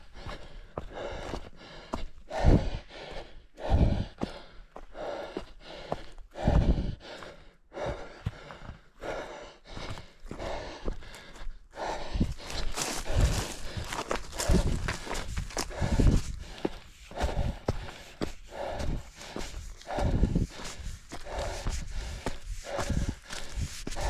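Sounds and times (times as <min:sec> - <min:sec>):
runner breathing heavily: 0:00.0 - 0:24.0
running footfalls: 0:00.2 - 0:24.0.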